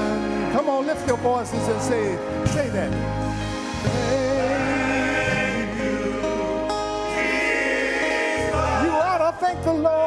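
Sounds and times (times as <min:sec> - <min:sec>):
voices singing gospel song: 0:00.0 - 0:09.4
organ-like chords and bass: 0:00.0 - 0:10.0.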